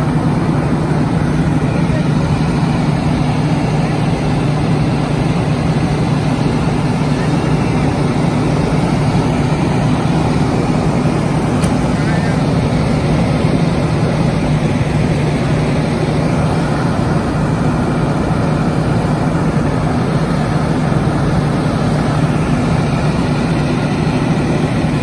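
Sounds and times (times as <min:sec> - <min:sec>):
diesel engines droning: 0:00.0 - 0:25.0.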